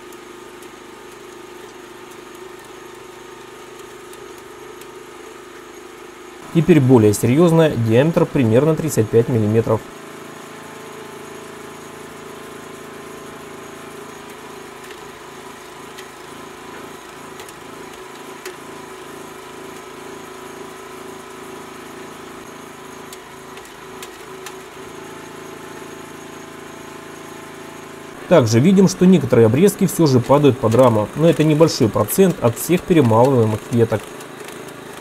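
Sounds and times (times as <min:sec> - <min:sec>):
shredder petrol engine running: 0:00.0 - 0:35.0.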